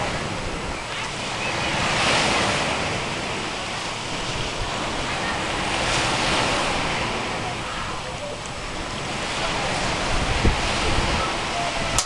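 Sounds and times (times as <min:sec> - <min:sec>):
sea surf washing ashore: 0:00.0 - 0:12.0
wind buffeting microphone: 0:00.0 - 0:12.0.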